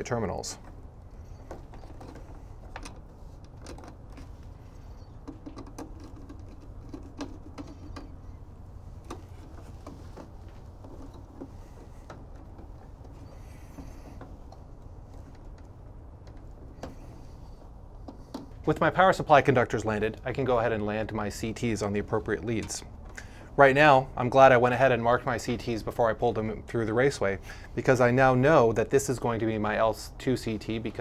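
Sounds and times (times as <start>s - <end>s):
low steady hum: 0.0s - 31.0s
small rustling noises: 0.0s - 31.0s.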